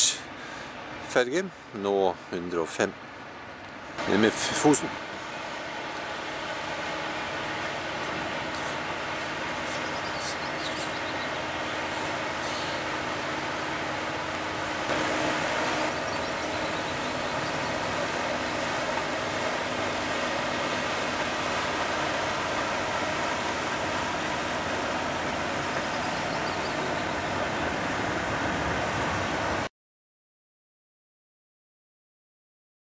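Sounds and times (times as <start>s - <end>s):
ferry engines rumbling: 0.0s - 29.7s.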